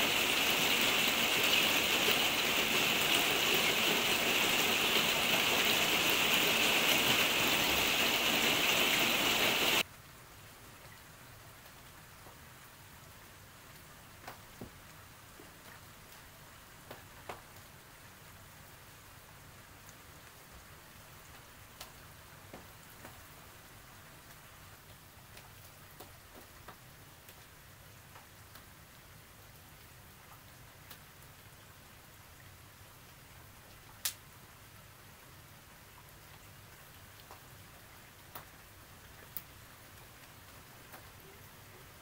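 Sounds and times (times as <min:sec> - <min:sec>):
light rain patter: 0:00.0 - 0:42.0
raindrops striking close by: 0:00.0 - 0:42.0.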